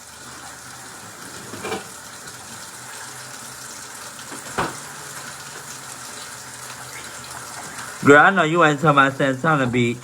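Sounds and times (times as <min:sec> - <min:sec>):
kitchen tap running: 0:00.0 - 0:10.0.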